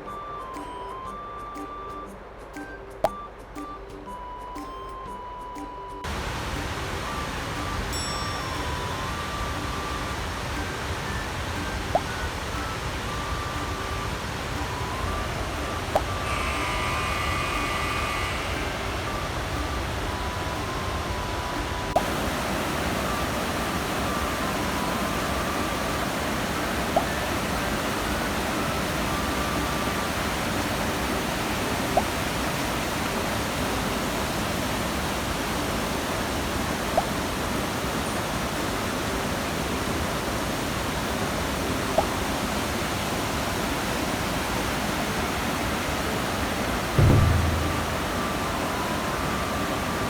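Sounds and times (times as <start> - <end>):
stream water rushing: 6.0 - 50.0.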